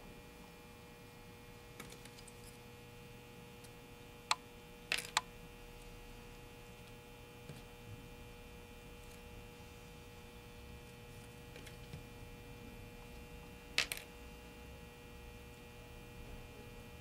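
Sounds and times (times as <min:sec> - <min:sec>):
faint electrical hum with whine: 0:00.0 - 0:17.0.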